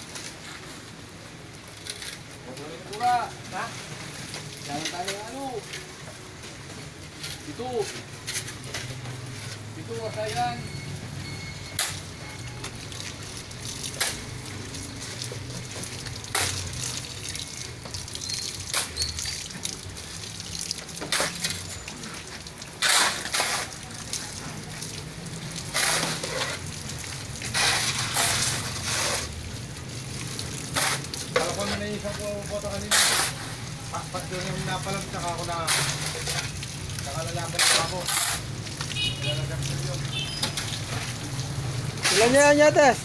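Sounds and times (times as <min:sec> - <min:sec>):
hose water splashing on concrete: 0:00.0 - 0:43.0.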